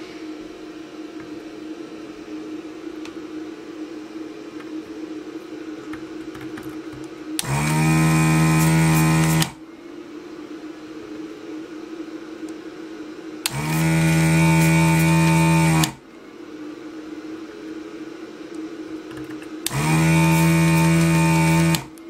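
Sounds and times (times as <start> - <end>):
vacuum pump buzzing: 0.0 - 9.8, 11.0 - 16.6, 17.2 - 22.0
steady low hum: 0.0 - 22.0.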